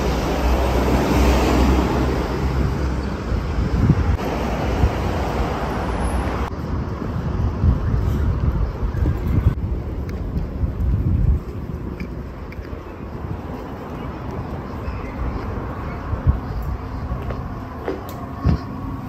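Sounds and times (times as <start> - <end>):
cars rumbling along road: 0.0 - 19.0.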